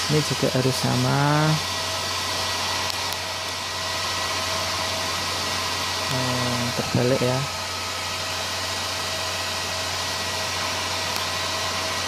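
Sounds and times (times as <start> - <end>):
welder cooling fan whoosh: 0.0 - 12.0.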